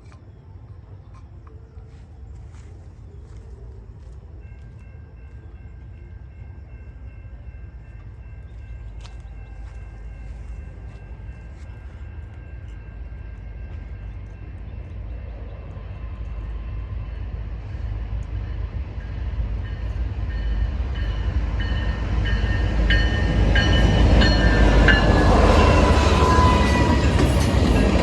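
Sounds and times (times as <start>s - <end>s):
diesel locomotive rumble: 0.0s - 28.0s.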